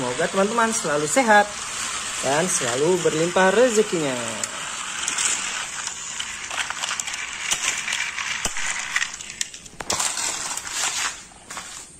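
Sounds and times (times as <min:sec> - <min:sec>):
plastic toy trains clicking and rattling: 0:00.0 - 0:11.9.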